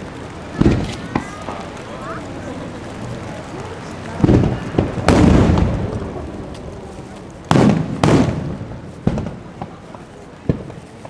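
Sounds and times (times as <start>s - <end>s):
fireworks booming with echo: 0.0s - 11.0s.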